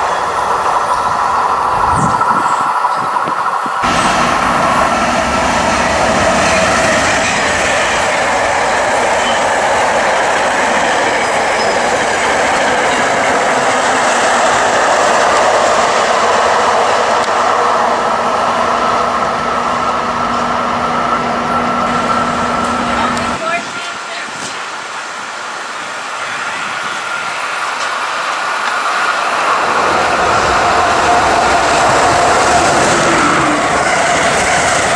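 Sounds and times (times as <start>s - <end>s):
train wheels rumbling on rails: 0.0s - 34.9s
clickety-clack over rail joints: 2.0s - 24.6s, 27.3s - 34.9s.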